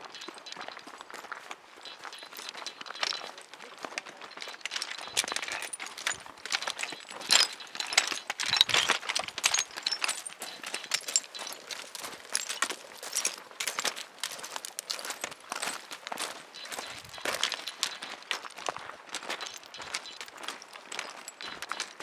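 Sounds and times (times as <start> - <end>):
rock chips clacking: 1.8 - 22.0.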